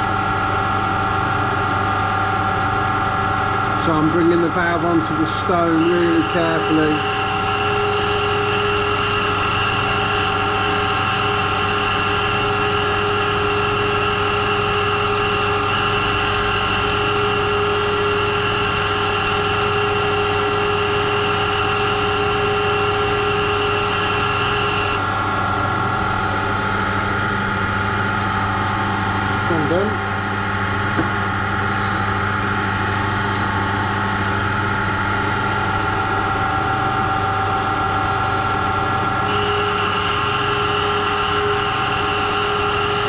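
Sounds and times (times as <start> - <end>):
grinding machine whine: 0.0 - 43.0.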